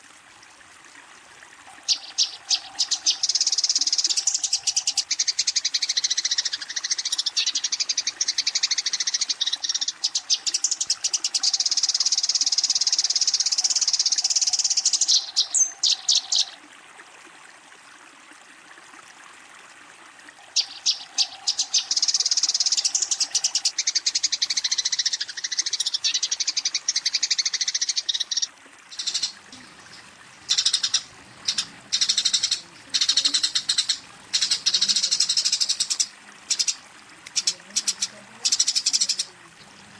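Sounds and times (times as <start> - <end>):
sparrow chattering: 1.9 - 16.5, 20.6 - 39.3.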